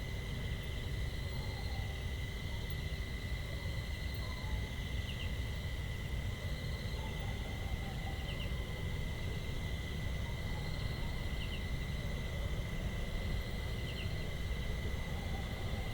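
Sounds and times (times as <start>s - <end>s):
high insect drone: 0.0s - 15.9s.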